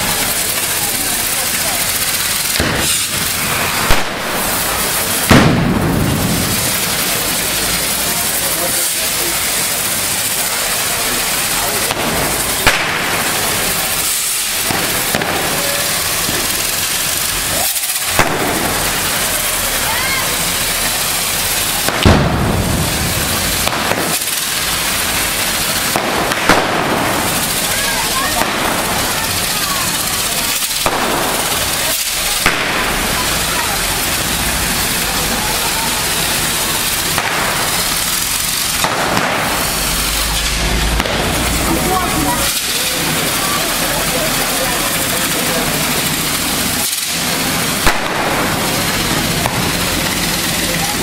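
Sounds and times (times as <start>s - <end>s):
fireworks hissing: 0.0s - 51.0s
sharp bangs: 0.0s - 51.0s.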